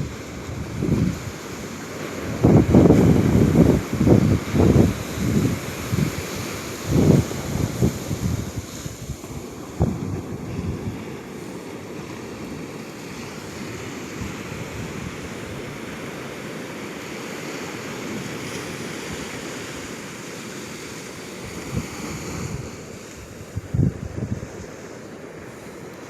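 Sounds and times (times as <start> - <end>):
wind buffeting microphone: 0.0 - 20.1, 21.3 - 26.0
ocean surf breaking: 0.0 - 26.0.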